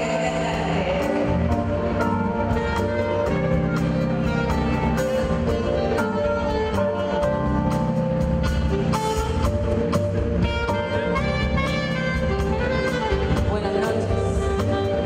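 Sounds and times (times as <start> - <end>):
bass notes: 0.0 - 15.0
drum kit beat: 0.0 - 15.0.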